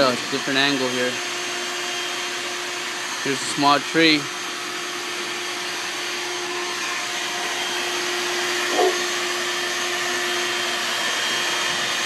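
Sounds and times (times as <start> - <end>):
vacuum motor humming: 0.0 - 12.0.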